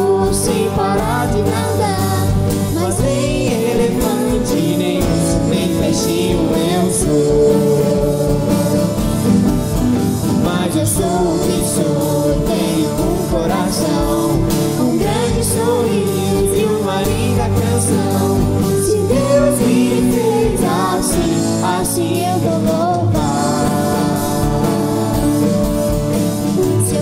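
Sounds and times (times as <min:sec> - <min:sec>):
girls singing: 0:00.0 - 0:09.1, 0:10.4 - 0:26.0
live band with guitars and drums: 0:00.0 - 0:27.0.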